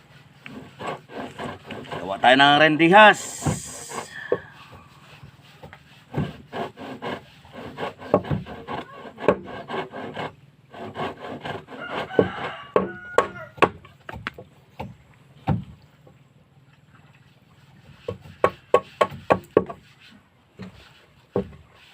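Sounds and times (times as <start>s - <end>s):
wooden boards knocking and scraping: 0.5s - 15.8s, 17.9s - 21.8s.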